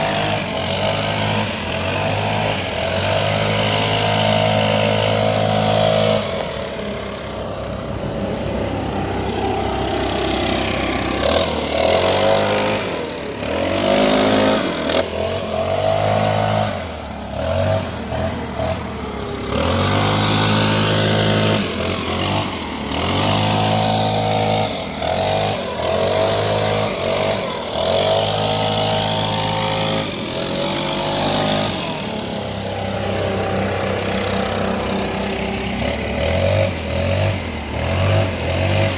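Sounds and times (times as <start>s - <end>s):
leaf blower running: 0.0s - 38.9s.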